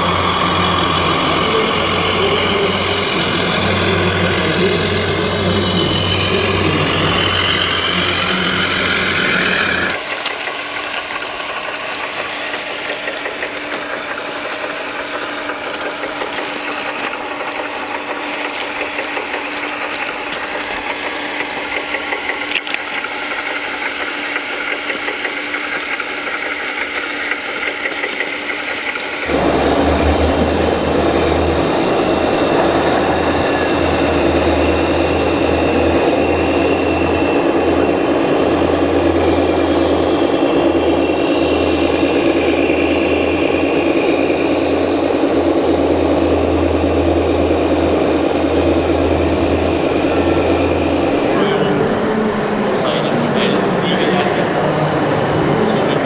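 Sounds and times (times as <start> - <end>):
model machine motor running: 0.0 - 31.4, 33.7 - 56.0
machine whine: 0.0 - 56.0.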